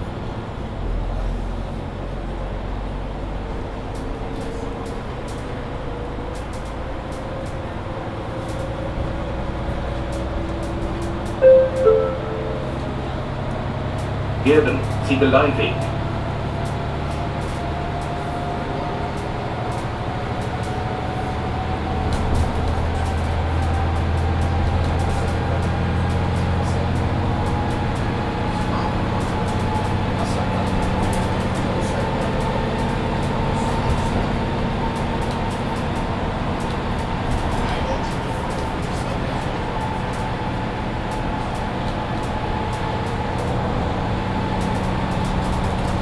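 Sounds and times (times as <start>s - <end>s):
bus drivetrain hum: 0.0s - 46.0s.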